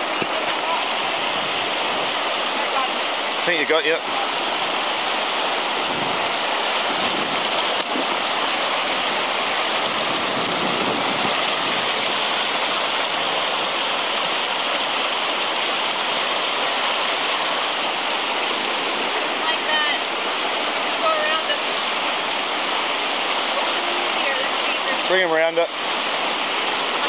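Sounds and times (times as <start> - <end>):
river rushing over stones: 0.0 - 27.0.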